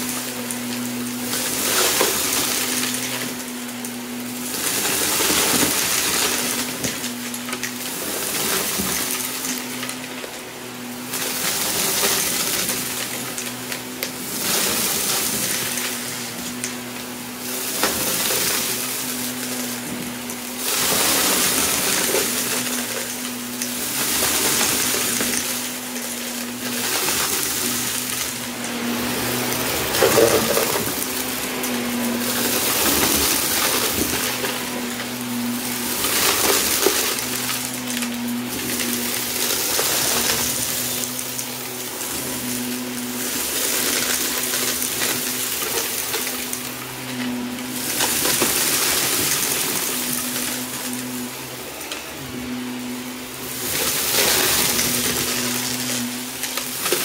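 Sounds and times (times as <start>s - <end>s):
debris rattling up vacuum intake: 0.0s - 57.0s
vacuum cleaner motor hum: 0.0s - 57.0s.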